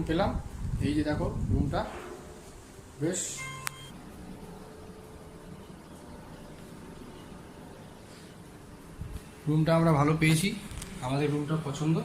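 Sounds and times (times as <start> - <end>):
faint room tone hiss: 0.0 - 12.0.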